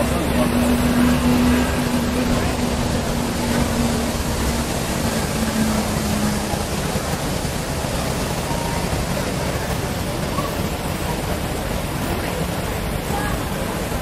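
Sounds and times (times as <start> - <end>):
outdoor rushing noise: 0.0 - 14.0.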